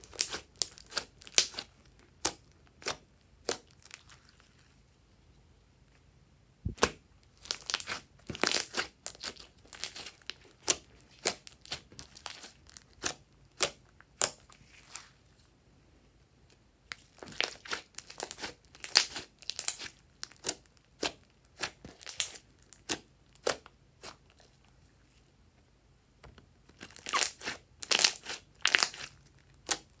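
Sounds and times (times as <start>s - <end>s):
slime squelching: 0.0s - 4.8s, 6.7s - 15.2s, 16.9s - 24.6s, 26.7s - 30.0s.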